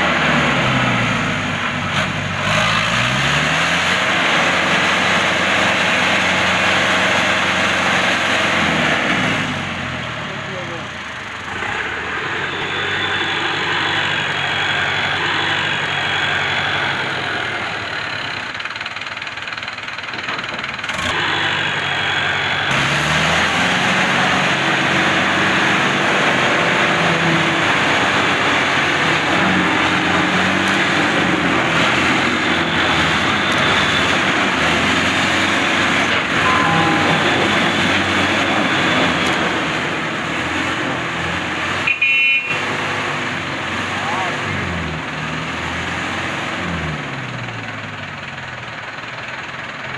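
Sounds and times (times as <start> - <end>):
diesel engines under load: 0.0 - 49.9.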